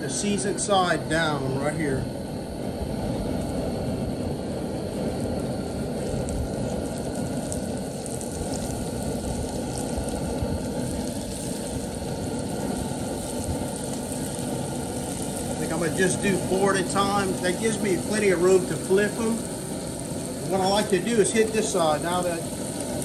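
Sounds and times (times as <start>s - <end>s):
gas burner roaring: 0.0s - 23.0s
fish sizzling in a skillet: 2.1s - 23.0s.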